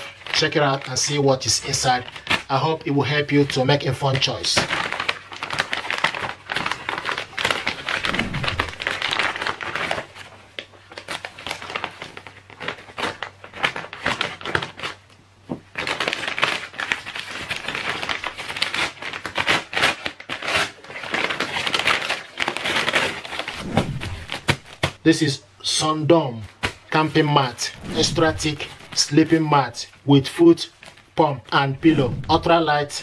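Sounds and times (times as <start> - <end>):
paper mailer bag crinkling: 0.0 - 15.0, 15.7 - 25.0, 26.7 - 33.0.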